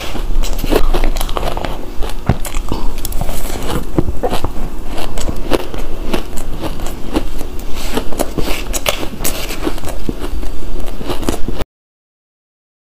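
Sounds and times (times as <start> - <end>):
ice being crunched and chewed: 0.0 - 11.6.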